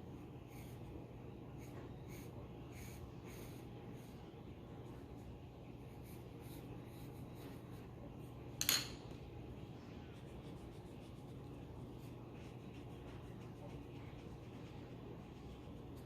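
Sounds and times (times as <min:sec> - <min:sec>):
pencil scratching on paper: 0:00.0 - 0:05.2, 0:05.8 - 0:08.1, 0:10.1 - 0:16.0
low steady hum: 0:00.0 - 0:16.0.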